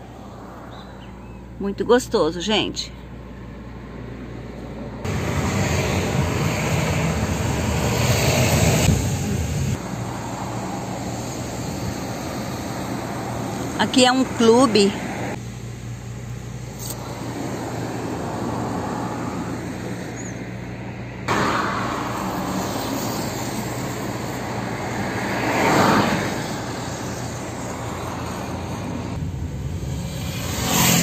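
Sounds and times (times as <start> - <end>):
car road and engine noise: 0.0 - 31.0
passing vehicle: 0.0 - 31.0.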